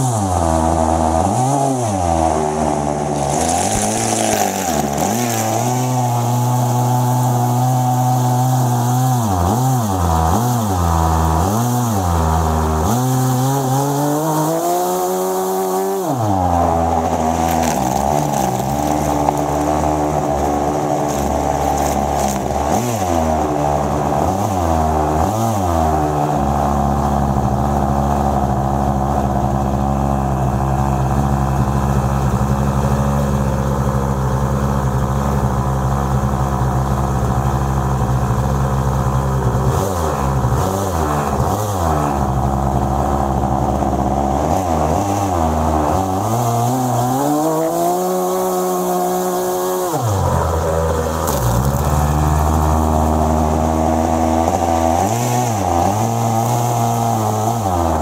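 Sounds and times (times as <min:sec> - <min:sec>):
nitro engine driving propeller: 0:00.0 - 0:58.0.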